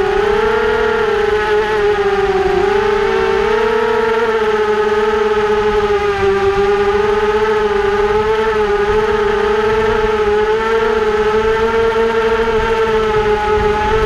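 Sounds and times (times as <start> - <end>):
model aircraft motor drone: 0.0 - 14.0.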